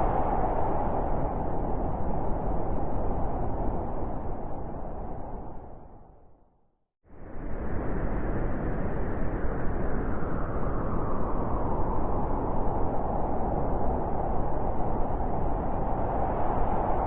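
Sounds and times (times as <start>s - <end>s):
blizzard wind howling: 0.0s - 6.5s, 7.1s - 17.0s.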